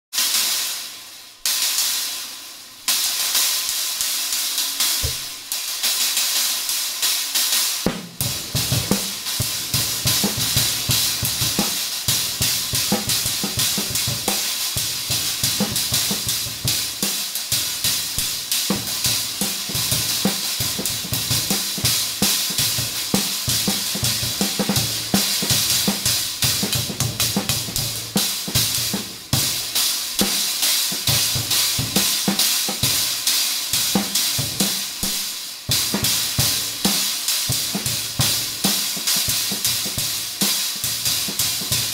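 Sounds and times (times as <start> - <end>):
drum kit beat: 0.1 - 41.9.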